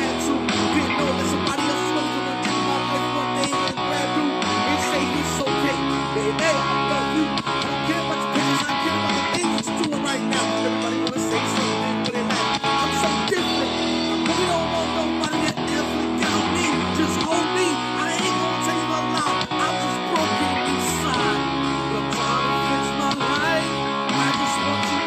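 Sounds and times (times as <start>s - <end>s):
strummed guitar chords: 0.0s - 25.0s.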